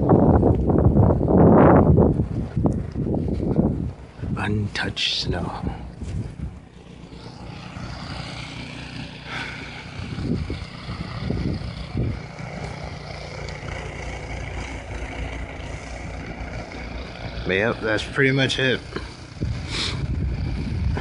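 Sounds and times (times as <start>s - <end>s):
snowblower engine running: 0.0s - 21.0s.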